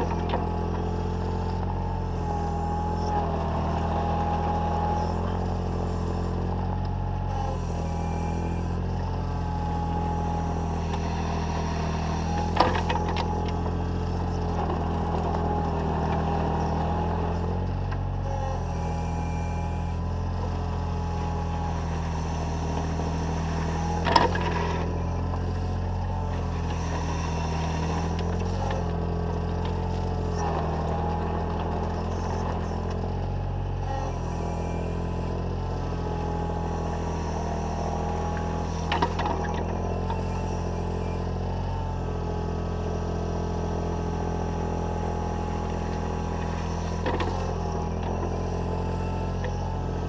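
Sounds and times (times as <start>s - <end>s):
diesel engine running: 0.0s - 50.0s
hydraulic whine: 0.0s - 50.0s.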